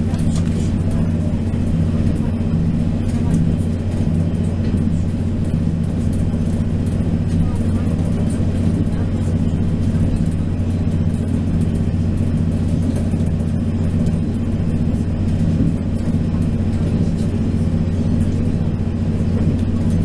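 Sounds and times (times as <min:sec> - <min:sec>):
diesel engine low drone: 0:00.0 - 0:20.0
train running noise: 0:00.0 - 0:20.0.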